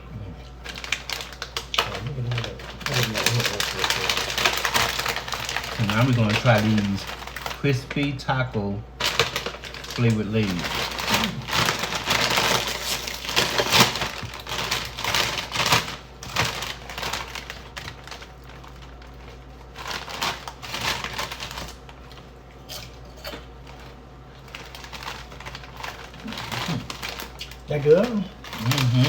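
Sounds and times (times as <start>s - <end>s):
snack bag rustling: 0.4s - 8.2s, 9.0s - 29.0s.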